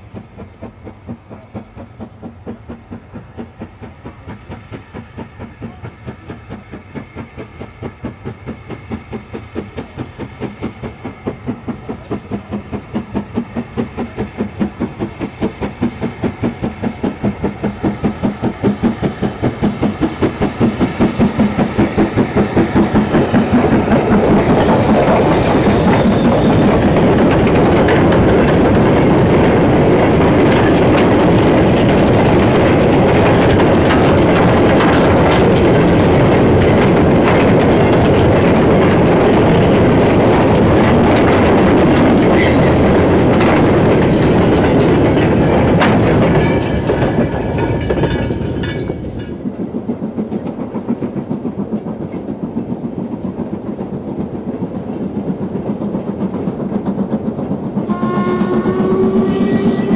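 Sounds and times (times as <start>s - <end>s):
steam locomotive exhaust beats: 0.0s - 59.9s
wagon wheels clattering over rail joints: 11.7s - 59.9s.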